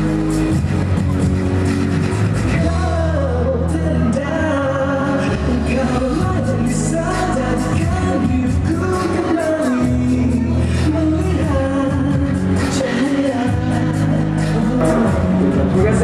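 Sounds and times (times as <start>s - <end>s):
pop band accompaniment: 0.0s - 16.0s
person singing: 2.5s - 16.0s.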